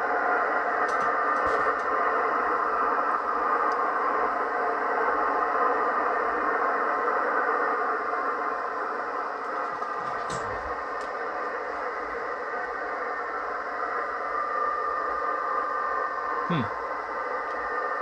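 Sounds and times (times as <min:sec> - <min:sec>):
radio receiver hissing: 0:00.0 - 0:18.0.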